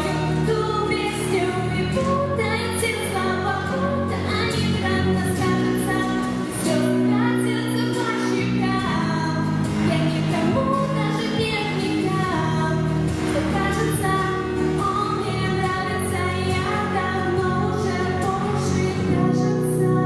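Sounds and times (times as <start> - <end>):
instrumental accompaniment: 0.0 - 20.0
woman singing pop song: 0.0 - 20.0.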